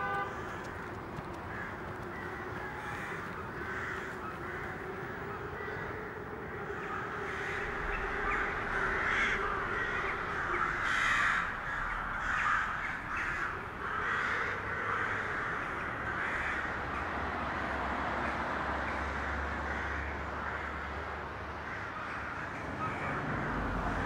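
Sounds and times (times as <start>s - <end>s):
crows cawing: 0.0s - 24.0s.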